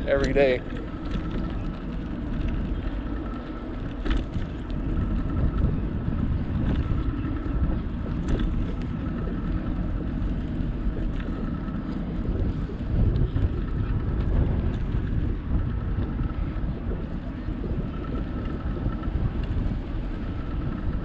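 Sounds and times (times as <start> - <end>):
faint steady whine: 0.0 - 21.0
tyres rolling over pavement: 0.0 - 21.0
wind rumbling on microphone: 0.0 - 21.0.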